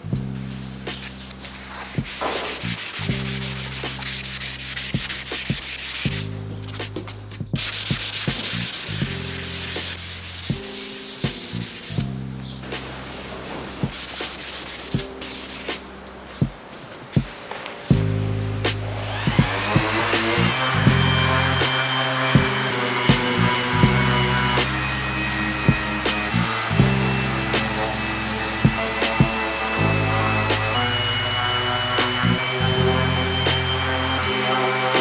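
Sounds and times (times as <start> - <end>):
sandpaper rubbing strokes: 0.4 - 17.6, 18.9 - 35.0.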